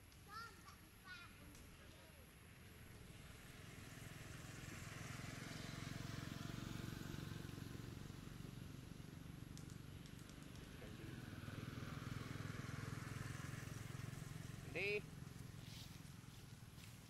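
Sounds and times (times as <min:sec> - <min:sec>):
vehicle engine running: 0:02.8 - 0:17.0.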